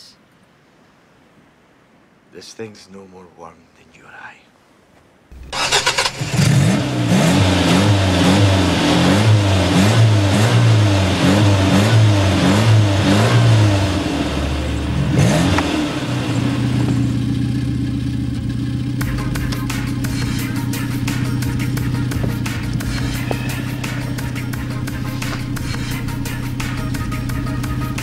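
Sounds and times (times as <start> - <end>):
car engine revving and idling: 5.4 - 28.0.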